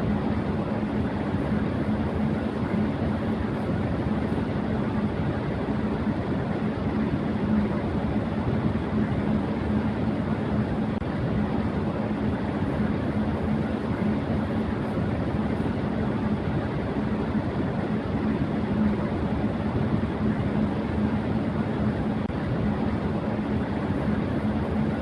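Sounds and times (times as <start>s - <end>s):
electric fan rushing air: 0.0s - 25.0s
fan motor hum: 0.0s - 25.0s.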